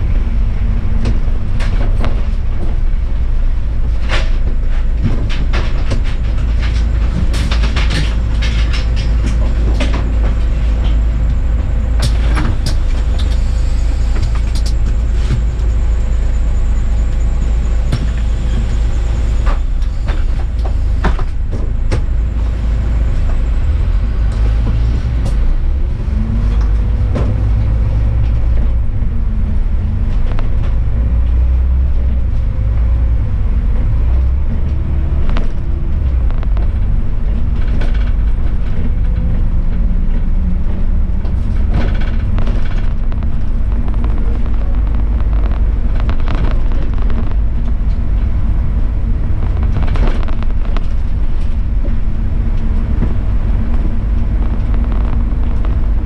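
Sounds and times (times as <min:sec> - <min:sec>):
bus engine and road rumble: 0:00.0 - 0:56.0
rattles and clicks: 0:00.0 - 0:56.0.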